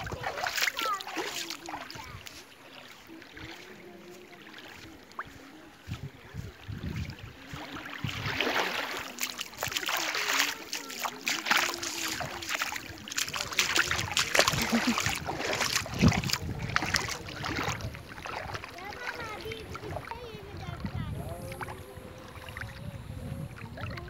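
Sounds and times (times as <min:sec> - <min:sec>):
water lapping on sand: 0:00.0 - 0:24.0.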